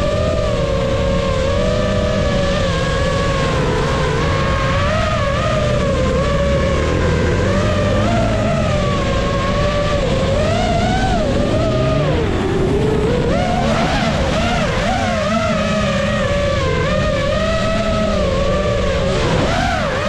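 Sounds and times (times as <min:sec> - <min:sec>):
drone motors whining: 0:00.0 - 0:20.0
steady low rumble: 0:00.0 - 0:20.0.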